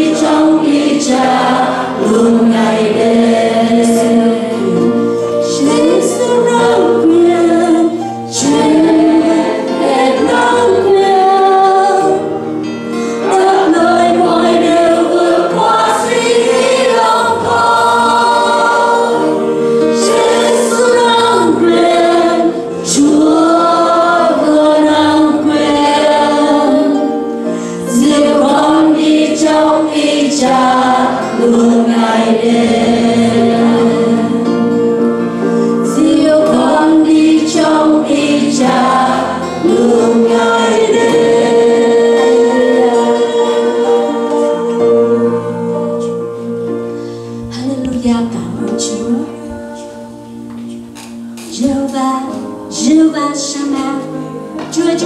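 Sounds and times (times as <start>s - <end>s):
women singing into microphones: 0.0s - 12.4s, 13.2s - 34.9s, 35.8s - 46.5s, 47.5s - 50.8s, 51.4s - 55.0s
acoustic guitar: 0.0s - 55.0s
keyboard: 0.0s - 55.0s.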